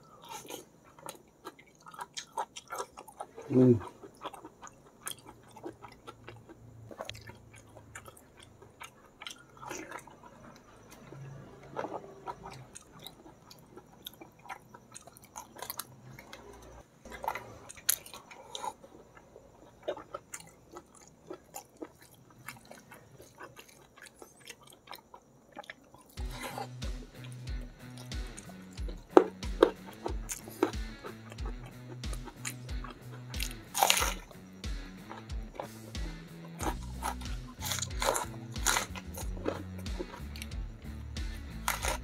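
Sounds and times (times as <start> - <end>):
person chewing: 0.0 - 42.0.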